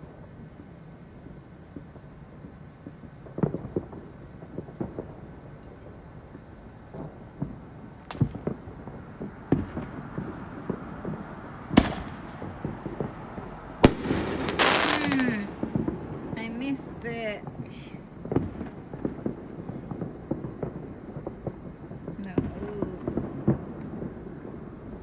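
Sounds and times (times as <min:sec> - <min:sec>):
fireworks bangs: 0:00.0 - 0:25.0
fireworks crackle: 0:00.0 - 0:25.0.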